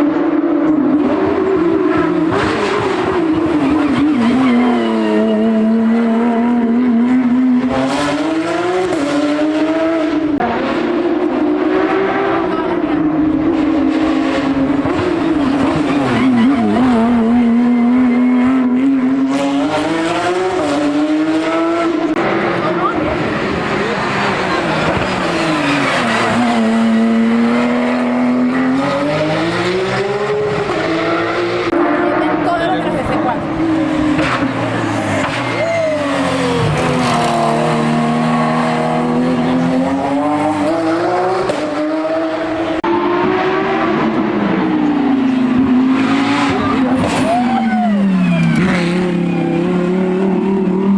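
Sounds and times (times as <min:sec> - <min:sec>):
race car engine at high revs: 0:00.0 - 0:50.9.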